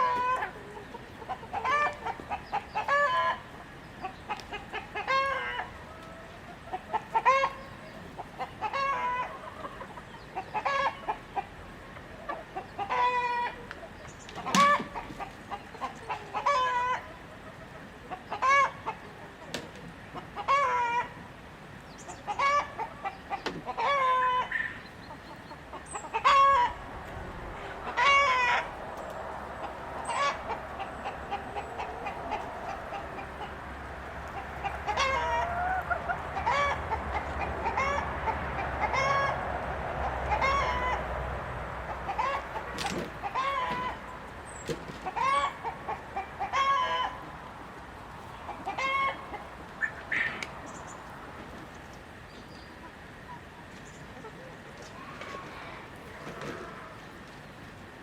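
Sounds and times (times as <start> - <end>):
chickens clucking: 0.0 - 58.0
low hum and murmur of flock: 0.0 - 58.0.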